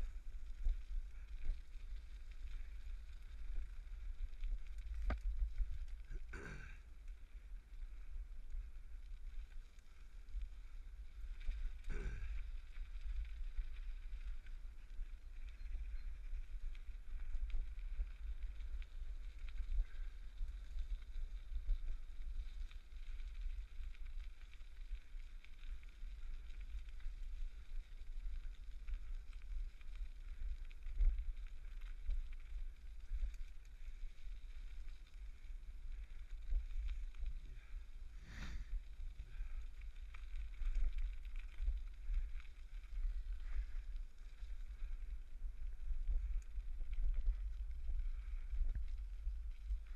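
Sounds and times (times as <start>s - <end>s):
bicycle tyres rumbling on gravel: 0.0s - 49.9s.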